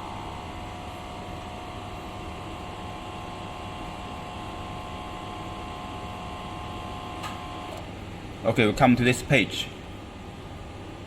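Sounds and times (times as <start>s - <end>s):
faint constant whine: 0.0s - 11.0s
grinder machine hum and fan: 0.0s - 11.0s.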